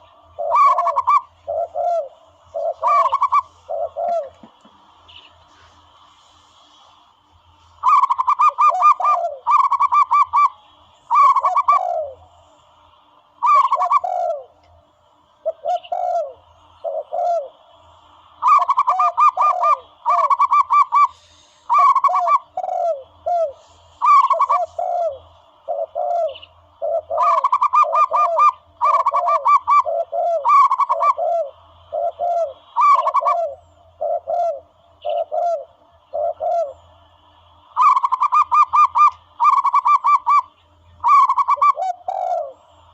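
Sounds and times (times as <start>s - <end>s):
recorded dove cooing: 0.0s - 5.8s, 7.8s - 12.3s, 13.4s - 14.7s, 15.4s - 42.9s.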